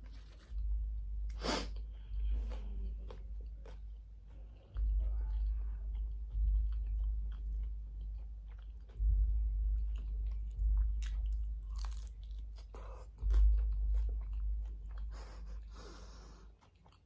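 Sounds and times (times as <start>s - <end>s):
chewing crunchy tortilla chips: 1.3s - 17.0s.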